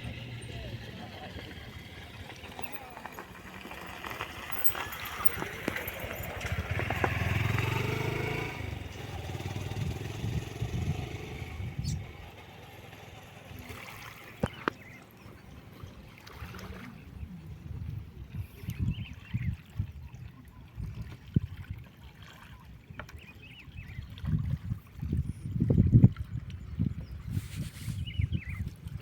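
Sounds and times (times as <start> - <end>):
small boat motor running: 0.0 - 26.8.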